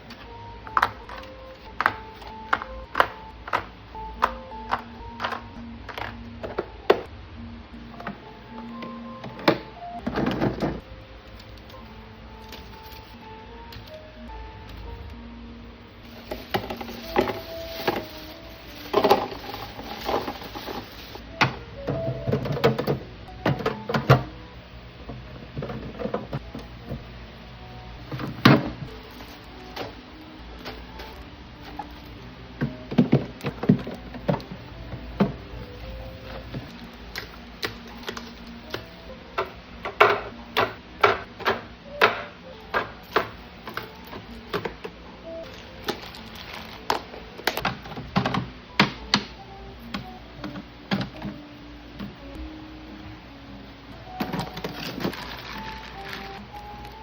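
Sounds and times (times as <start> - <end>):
groceries clicking and knocking: 0.0 - 7.1, 7.9 - 11.8, 16.0 - 24.4, 25.0 - 27.1, 28.0 - 52.4, 54.0 - 57.0
soft background music: 0.0 - 57.0.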